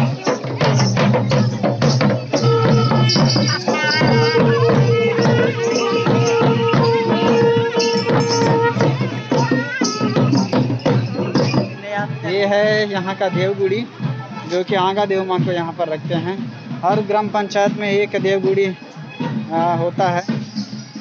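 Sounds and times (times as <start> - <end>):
folk drumming on barrel drums: 0.0 - 21.0.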